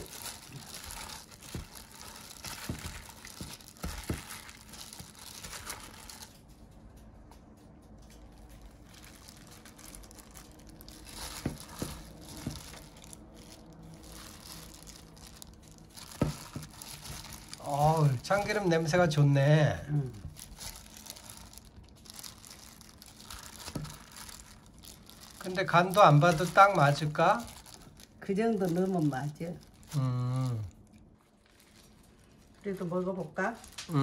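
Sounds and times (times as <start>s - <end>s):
plastic glove crinkling: 0.0s - 34.0s
vegetables rustling in a bowl: 0.0s - 34.0s.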